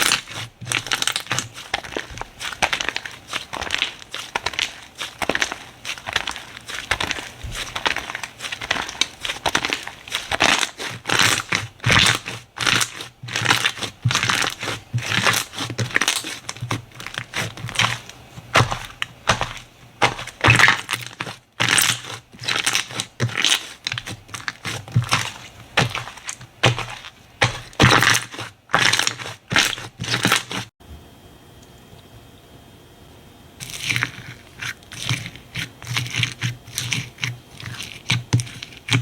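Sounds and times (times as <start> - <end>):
slime squeezed by hand crunching: 0.0 - 30.7, 33.6 - 39.0.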